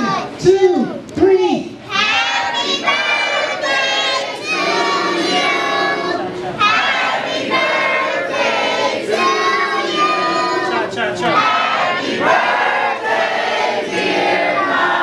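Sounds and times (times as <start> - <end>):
group of people singing together: 1.9 - 15.0.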